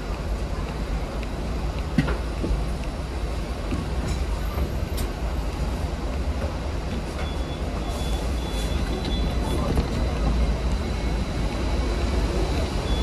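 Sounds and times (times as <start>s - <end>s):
tram rumbling along track: 0.0s - 13.0s.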